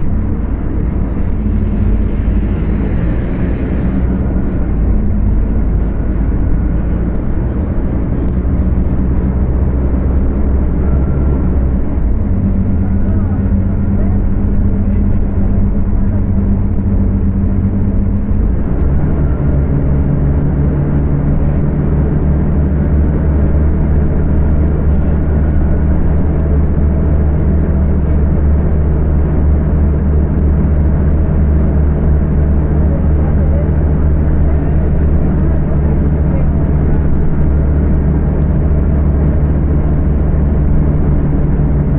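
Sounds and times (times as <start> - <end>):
bus engine running at high revs: 0.0 - 41.9.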